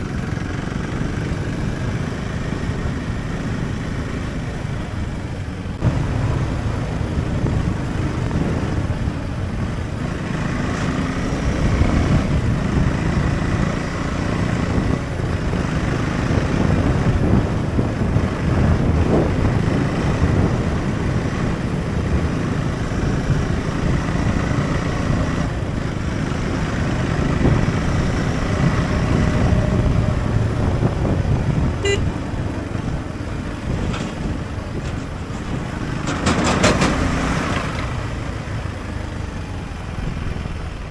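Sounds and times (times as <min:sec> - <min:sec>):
motorcycle engine running: 0:00.0 - 0:35.7
wind and road noise: 0:00.0 - 0:40.9.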